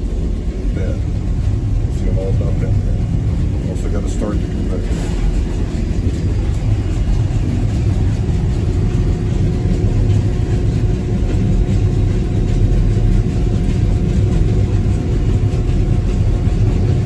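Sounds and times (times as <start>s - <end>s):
faint hum: 0.0s - 17.0s
machinery low mechanical rumble: 0.0s - 17.0s.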